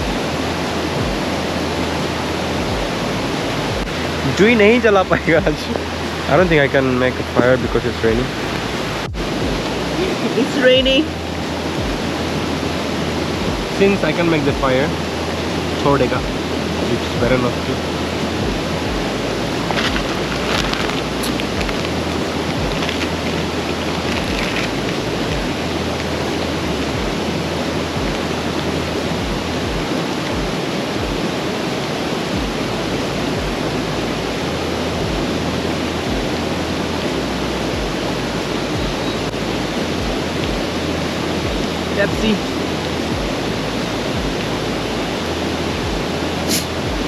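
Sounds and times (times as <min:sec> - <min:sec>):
mountain stream rushing: 0:00.0 - 0:47.0
rain: 0:00.0 - 0:47.0
wind buffeting microphone: 0:00.0 - 0:47.0.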